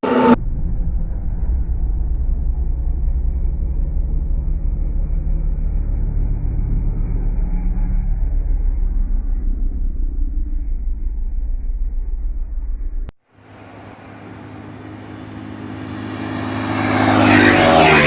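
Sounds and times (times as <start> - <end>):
sport motorcycle approaching: 0.0 - 13.1, 14.0 - 18.0
low engine rumble: 0.0 - 18.0.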